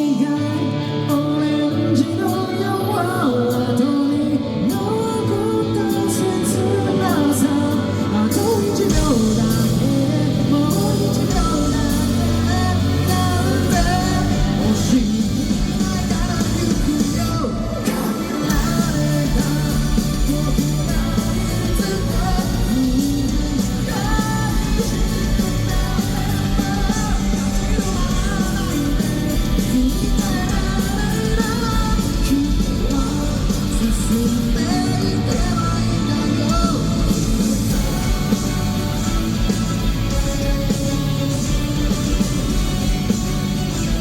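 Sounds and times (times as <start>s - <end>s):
lead singer singing: 0.0s - 44.0s
rock band playing live: 0.0s - 44.0s.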